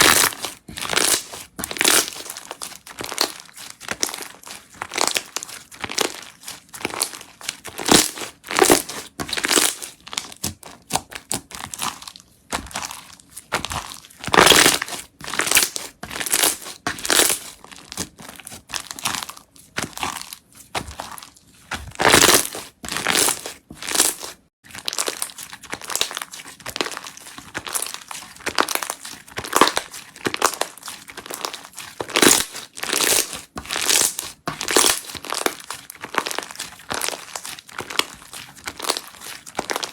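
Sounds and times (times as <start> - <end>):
slime squishing and crackling: 0.0 - 39.9.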